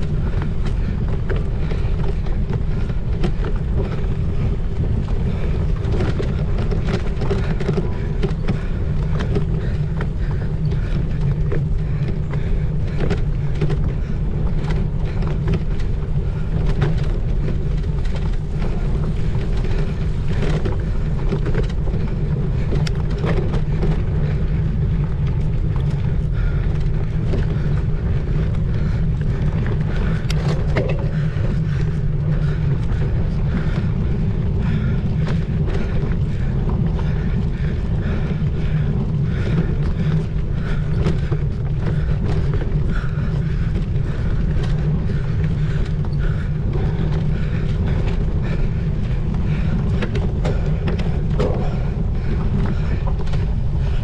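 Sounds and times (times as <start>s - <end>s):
bike clicks and rattles: 0.0s - 54.0s
wind rumble on microphone: 0.0s - 54.0s.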